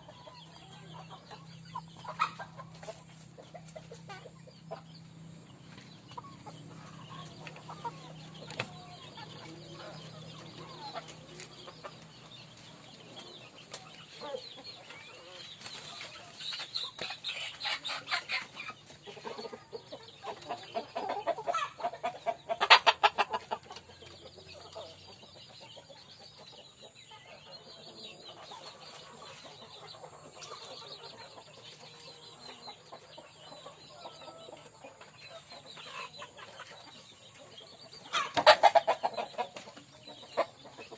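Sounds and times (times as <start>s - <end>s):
chickens clucking: 0.0s - 40.9s
rapid repeated chicken calls: 0.0s - 40.9s.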